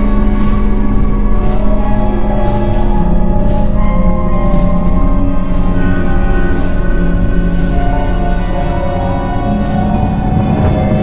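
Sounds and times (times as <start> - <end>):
eerie held music notes: 0.0 - 11.0
low sustained drone: 0.0 - 11.0.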